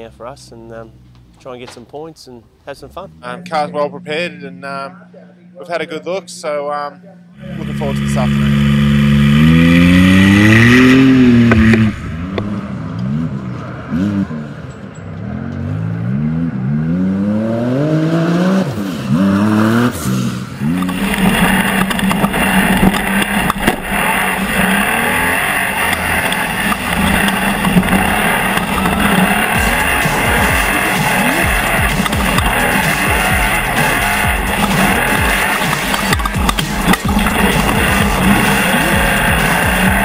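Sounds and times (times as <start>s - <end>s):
racing buggy engine revving: 0.0s - 40.0s.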